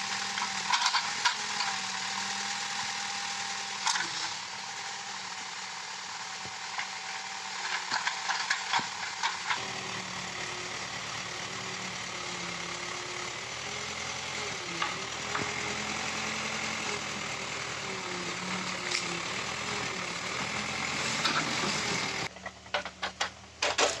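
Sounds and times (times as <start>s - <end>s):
diesel engine digging: 0.0s - 24.0s.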